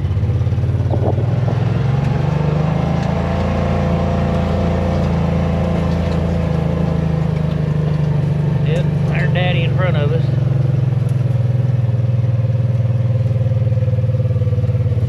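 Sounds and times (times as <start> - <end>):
farm vehicle engine running: 0.0 - 15.0.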